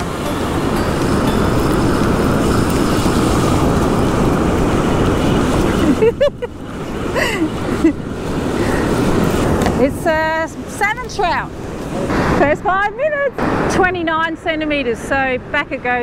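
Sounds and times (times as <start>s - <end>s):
ocean surf breaking: 0.0s - 16.0s
wind buffeting the microphone: 0.0s - 16.0s.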